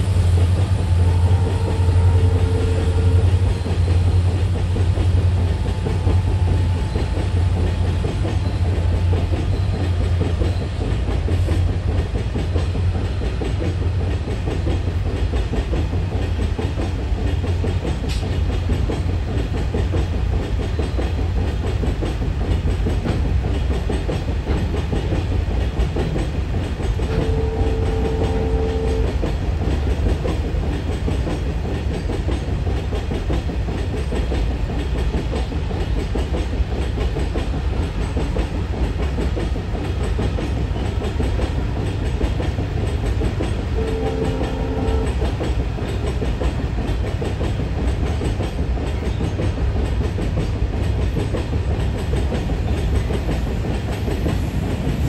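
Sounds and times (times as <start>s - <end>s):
train wagons rumbling on rails: 0.0s - 55.0s.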